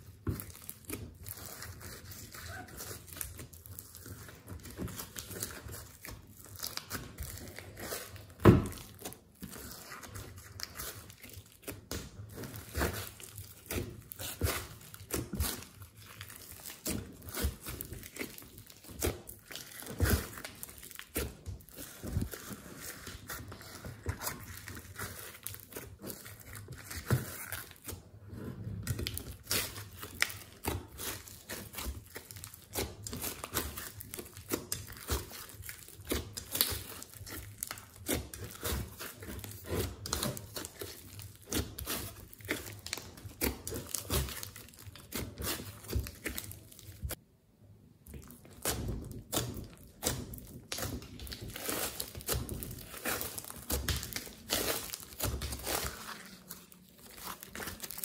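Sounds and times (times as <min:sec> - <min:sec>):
slime crackling and popping: 0:00.1 - 0:28.0, 0:28.9 - 0:47.2, 0:48.1 - 0:58.0.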